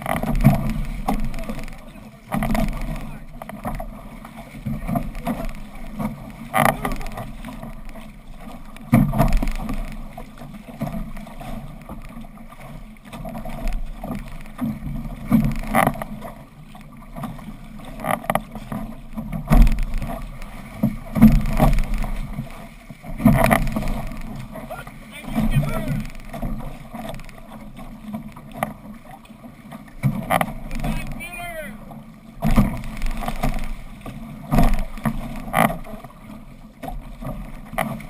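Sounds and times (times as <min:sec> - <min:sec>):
water splashing against canoe hull: 0:00.0 - 0:38.0.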